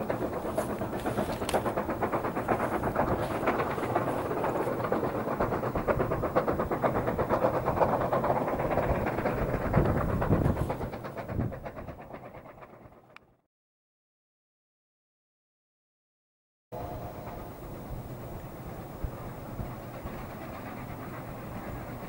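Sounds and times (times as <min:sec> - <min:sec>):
steam locomotive exhaust chuffing: 0:00.0 - 0:13.2, 0:16.8 - 0:22.0.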